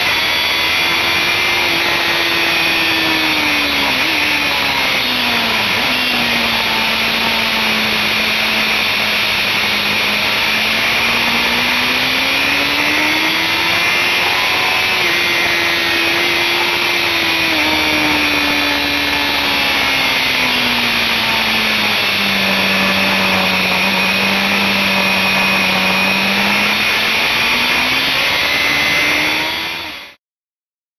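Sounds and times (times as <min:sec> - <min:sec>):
motorcycle engine at high revs: 0:00.0 - 0:30.2.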